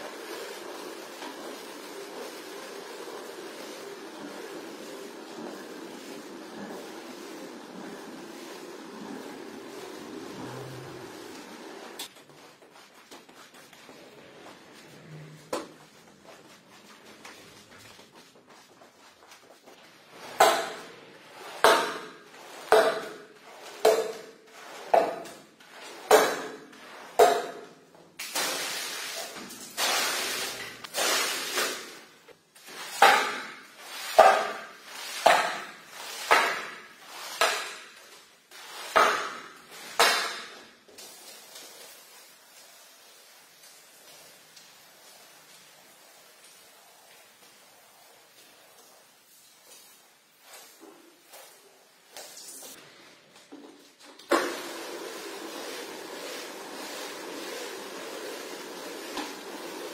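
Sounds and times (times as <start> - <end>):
squeegee scraping wet carpet: 0.0 - 52.9, 54.3 - 59.9.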